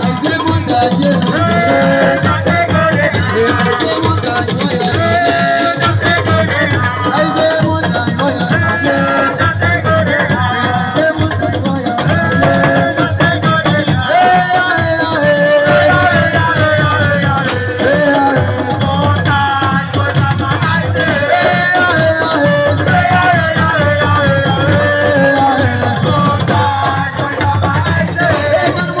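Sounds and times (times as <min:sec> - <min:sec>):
drums: 0:00.0 - 0:29.0
person singing: 0:00.0 - 0:29.0.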